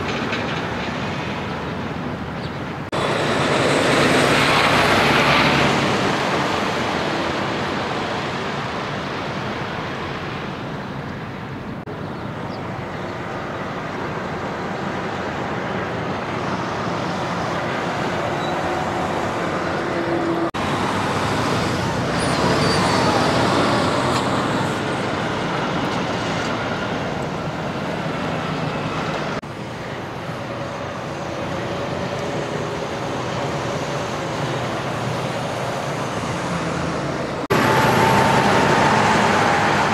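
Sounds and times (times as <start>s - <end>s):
trucks and vehicles passing: 0.0s - 39.9s.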